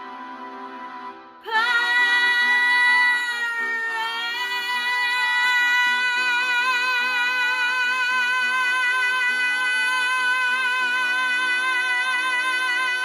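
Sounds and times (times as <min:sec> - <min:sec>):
woman singing high note: 0:01.5 - 0:13.0.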